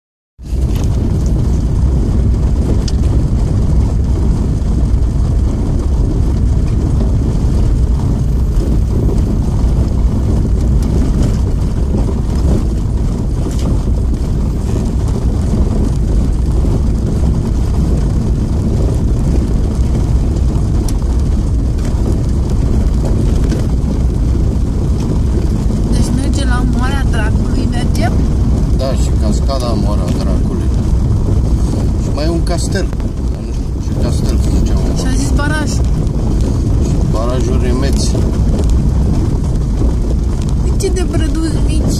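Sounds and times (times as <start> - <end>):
vehicle rumbling on gravel: 0.4 - 41.9.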